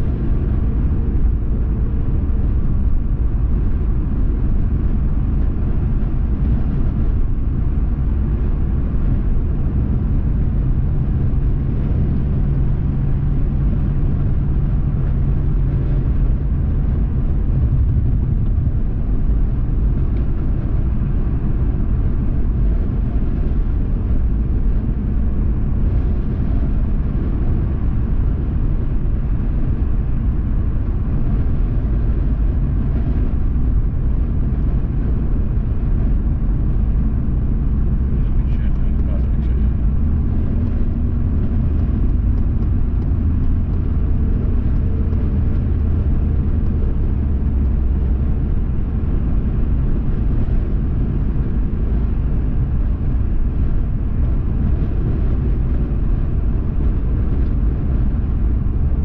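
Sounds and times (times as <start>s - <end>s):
faint engine hum: 0.0s - 59.0s
road and engine rumble: 0.0s - 59.0s.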